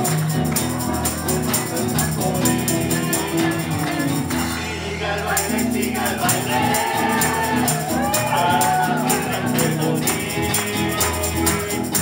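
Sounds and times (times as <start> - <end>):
percussion beat: 0.0 - 12.0
person singing: 0.0 - 12.0.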